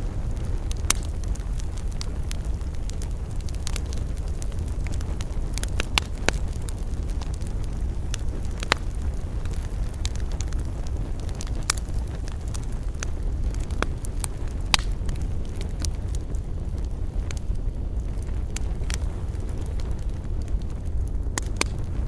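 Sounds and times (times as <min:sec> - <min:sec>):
campfire crackling and popping: 0:00.0 - 0:22.0
low rumble of fire: 0:00.0 - 0:22.0.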